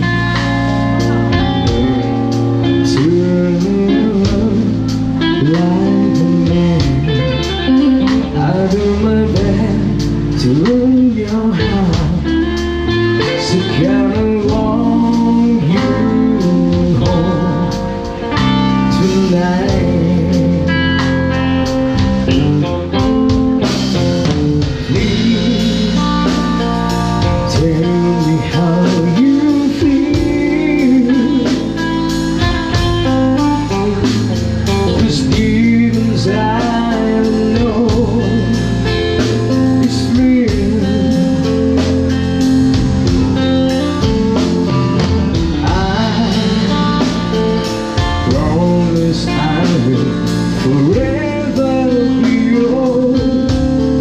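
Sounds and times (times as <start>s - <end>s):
guitar: 0.0s - 54.0s
lead vocal: 0.0s - 54.0s
steady drum beat: 0.0s - 54.0s.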